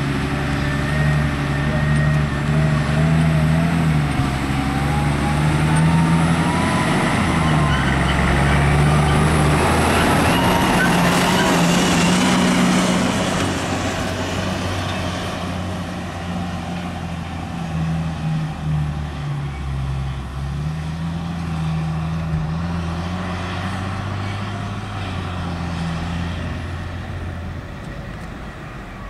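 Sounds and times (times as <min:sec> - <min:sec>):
diesel engine under load: 0:00.0 - 0:29.0.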